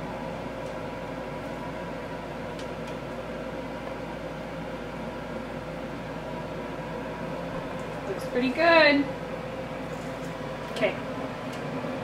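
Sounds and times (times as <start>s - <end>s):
kitchen machine hum: 0.0s - 12.0s.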